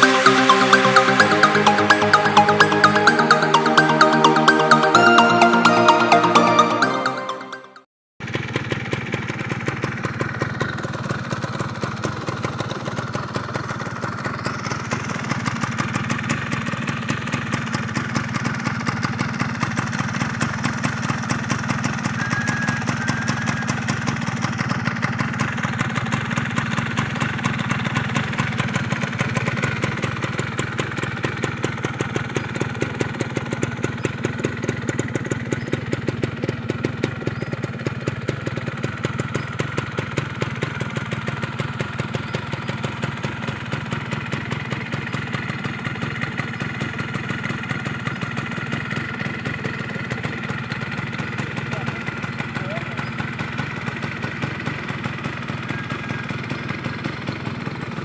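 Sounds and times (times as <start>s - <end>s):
two-stroke engine idling: 8.2s - 58.0s.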